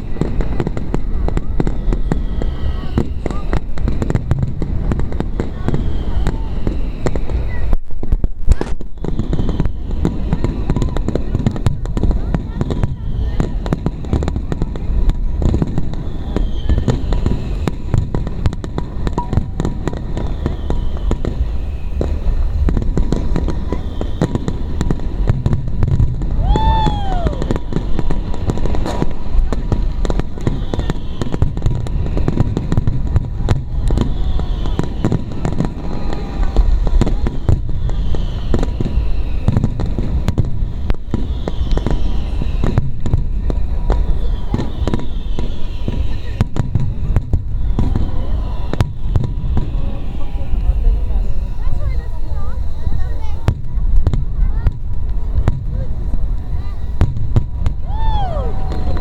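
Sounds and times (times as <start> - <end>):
firework whistling: 0.0 - 59.0
fireworks banging and crackling: 0.0 - 59.0.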